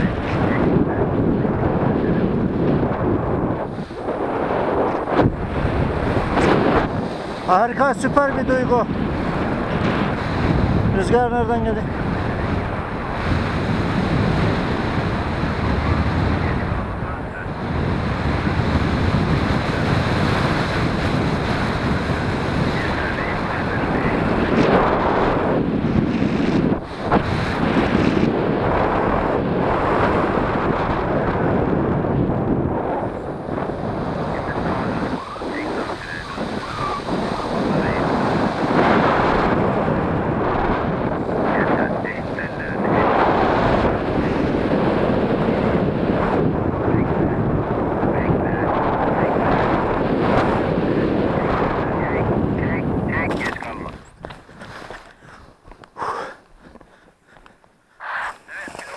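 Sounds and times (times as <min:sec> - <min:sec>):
wind noise on microphone: 0:00.0 - 0:58.9.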